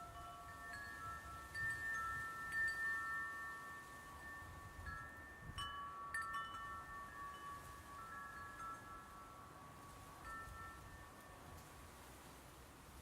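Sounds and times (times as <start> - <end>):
soft bell-like music notes: 0.0 - 11.7.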